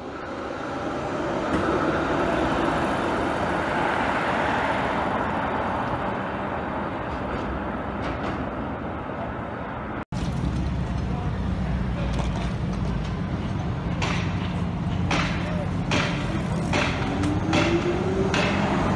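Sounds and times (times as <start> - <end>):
deep streetcar hum: 0.0 - 18.9
streetcar rumbling on rails: 0.0 - 18.9.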